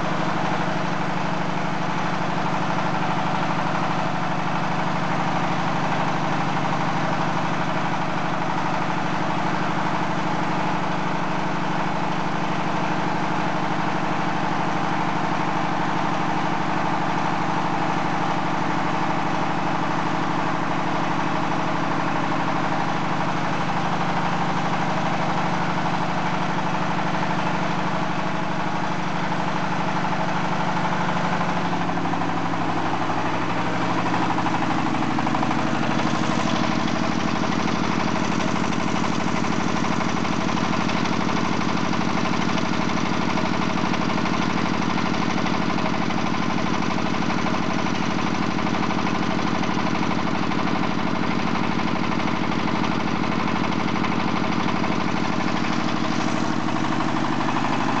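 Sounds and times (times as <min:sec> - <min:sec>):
diesel drilling rig engine drone: 0:00.0 - 0:58.0.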